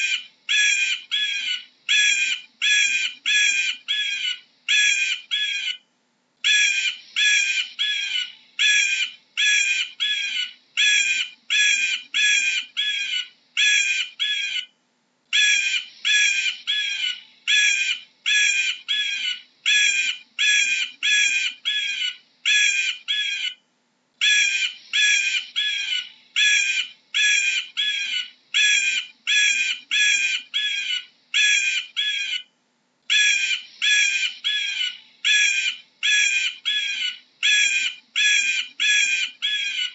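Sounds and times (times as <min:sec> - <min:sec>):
eagle calling: 0:00.0 - 0:05.8, 0:06.4 - 0:23.6, 0:24.2 - 0:32.5, 0:33.1 - 0:39.9.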